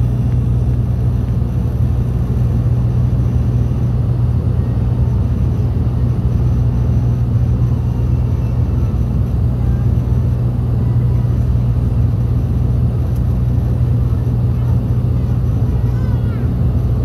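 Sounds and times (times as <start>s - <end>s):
turboprop engines droning in cabin: 0.0s - 17.0s.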